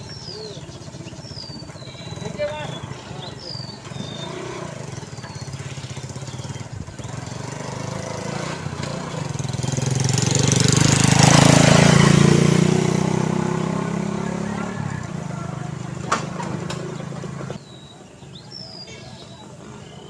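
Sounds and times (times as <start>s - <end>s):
motorcycle engine passing: 0.0s - 17.6s.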